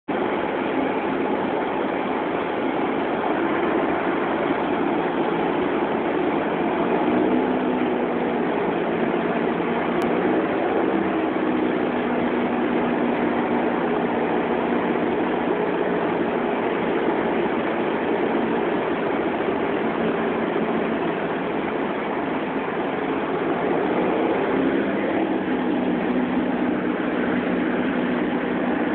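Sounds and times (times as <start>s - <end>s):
airflow over cabin: 0.1s - 28.9s
propeller plane engine droning: 0.1s - 28.9s.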